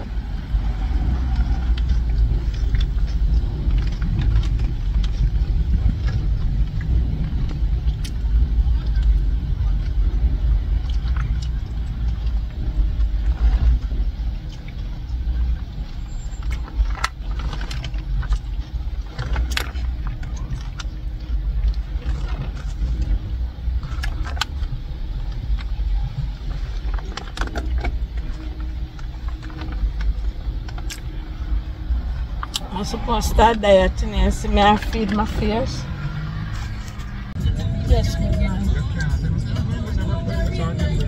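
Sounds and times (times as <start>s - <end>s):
low rumble inside a car: 0.0s - 41.0s.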